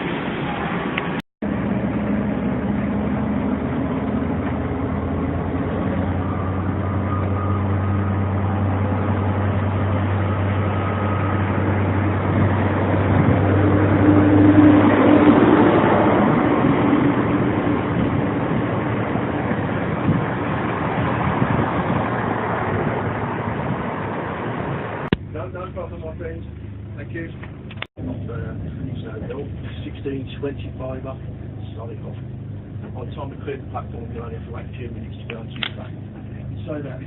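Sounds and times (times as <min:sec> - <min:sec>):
diesel train rumbling: 0:00.0 - 0:37.0
low engine hum: 0:00.0 - 0:37.0.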